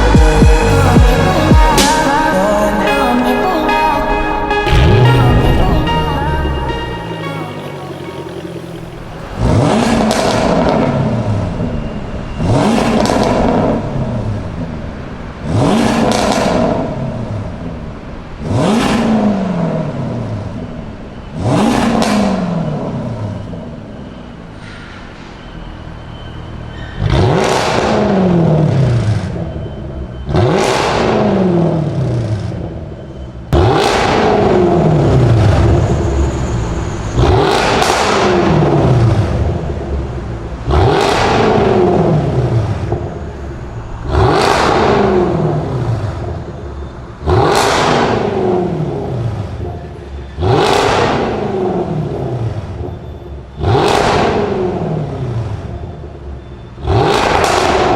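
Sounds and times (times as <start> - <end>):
car engine revving: 0.0 - 24.7, 25.9 - 57.9.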